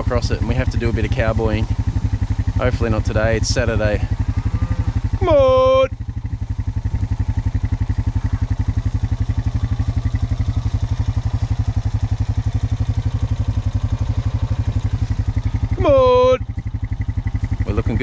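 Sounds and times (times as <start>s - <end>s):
farm vehicle engine putting: 0.0s - 18.0s.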